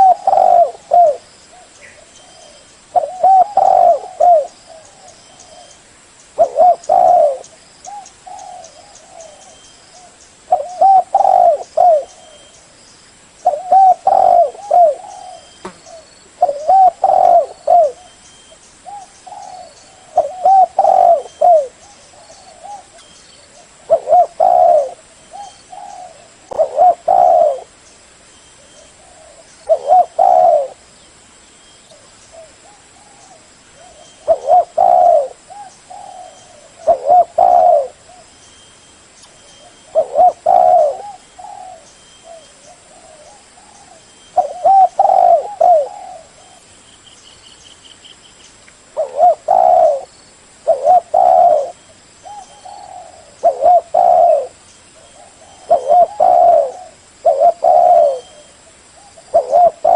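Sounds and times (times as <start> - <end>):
dove cooing: 0.0 - 5.8, 6.4 - 12.6, 13.4 - 18.2, 18.8 - 27.8, 28.6 - 30.8, 31.9 - 38.3, 39.6 - 46.7, 49.0 - 59.9.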